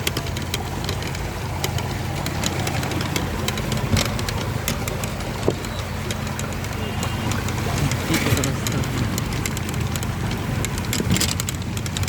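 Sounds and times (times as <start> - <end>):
splashes: 0.0 - 12.0
vehicle engine running: 0.0 - 12.0.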